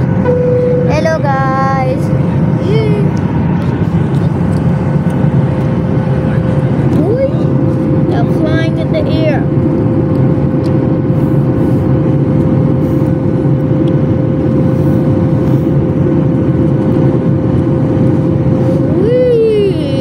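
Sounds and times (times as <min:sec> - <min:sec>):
jet engine and airflow roar: 0:00.0 - 0:20.0
steady hum tone: 0:00.0 - 0:20.0.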